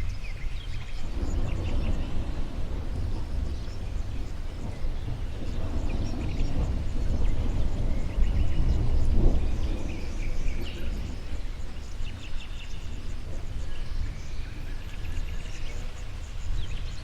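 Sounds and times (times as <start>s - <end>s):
low outdoor rumble: 0.0s - 17.0s
songbirds chirping: 0.0s - 17.0s.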